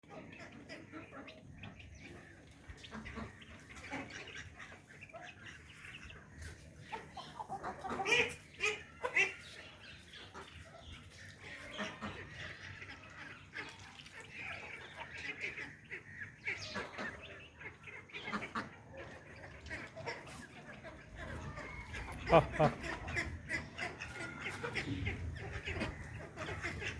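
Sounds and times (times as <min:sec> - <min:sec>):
ducks and hens calling: 0:00.0 - 0:26.9.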